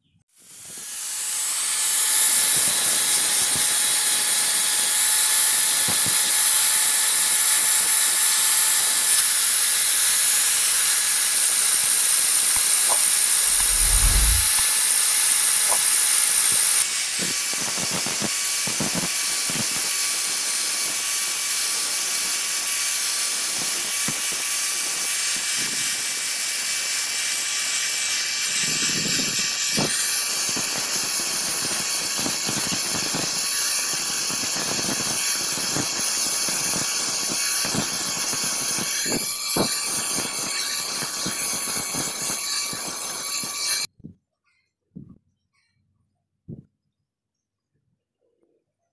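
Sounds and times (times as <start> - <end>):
angle grinder grinding steel: 0.4 - 22.8, 25.2 - 43.9.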